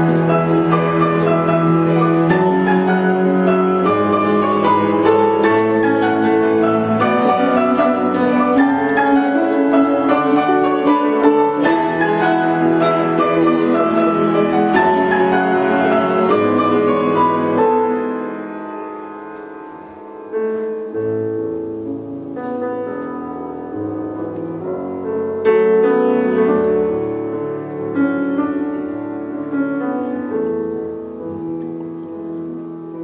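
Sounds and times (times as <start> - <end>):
bowed cello notes: 0.0 - 33.0
piano chords: 0.0 - 33.0.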